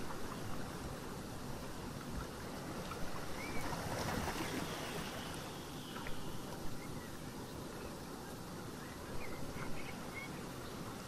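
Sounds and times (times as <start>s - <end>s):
ocean waves washing on shore: 0.0s - 11.0s.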